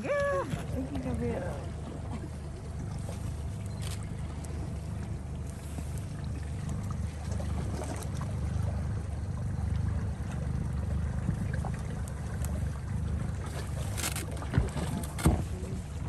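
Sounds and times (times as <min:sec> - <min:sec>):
outboard motor running: 0:00.0 - 0:16.0
water splashing along hull: 0:00.0 - 0:16.0.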